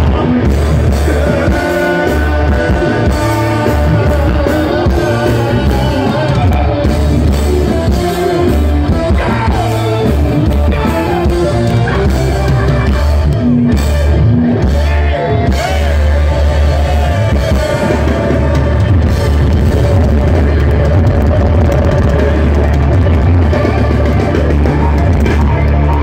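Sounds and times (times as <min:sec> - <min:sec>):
man singing: 0:00.0 - 0:24.0
live rock band playing: 0:00.0 - 0:26.0.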